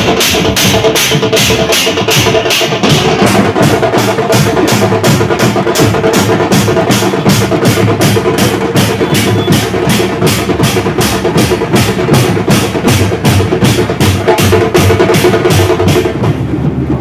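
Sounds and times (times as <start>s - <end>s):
drums beating fast rhythm: 0.0s - 17.0s.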